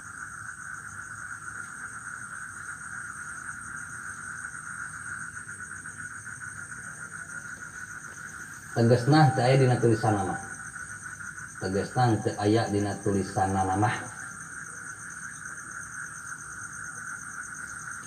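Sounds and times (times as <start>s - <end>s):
night insects trilling: 0.0s - 18.0s.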